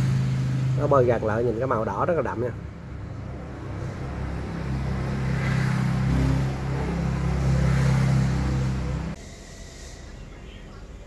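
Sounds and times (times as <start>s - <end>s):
low engine hum: 0.0s - 9.2s.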